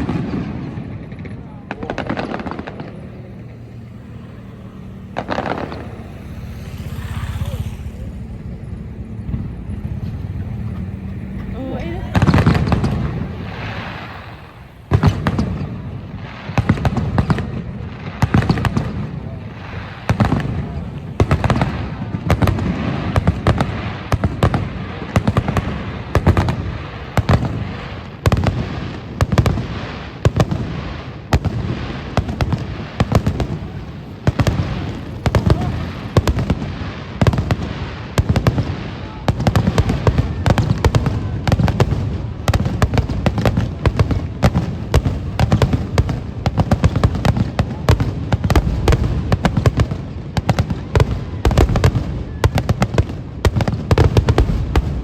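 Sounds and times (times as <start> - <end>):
low rumbling echo: 0.0 - 50.2
fireworks bursting: 0.0 - 55.0.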